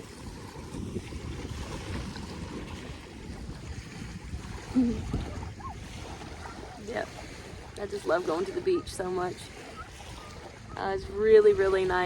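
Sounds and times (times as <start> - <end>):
gentle surf: 0.0 - 12.0
wind gusting on microphone: 0.0 - 12.0.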